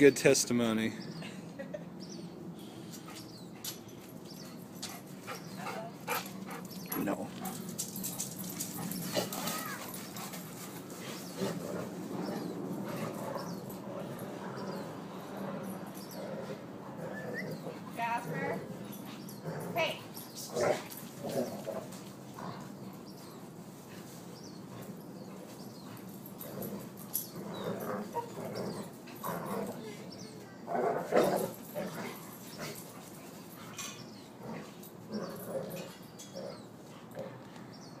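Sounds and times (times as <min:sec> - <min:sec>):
dogs play-wrestling: 0:02.9 - 0:38.0.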